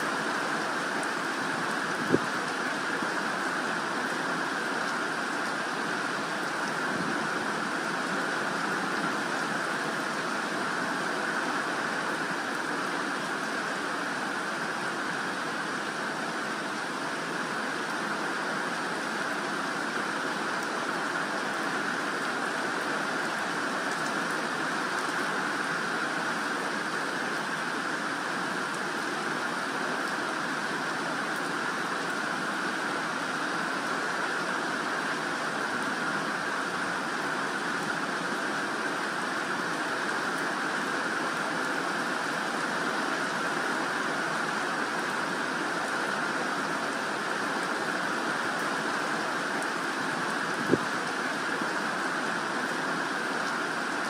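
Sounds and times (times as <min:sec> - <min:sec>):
steady rain on foliage: 0:00.0 - 0:54.0.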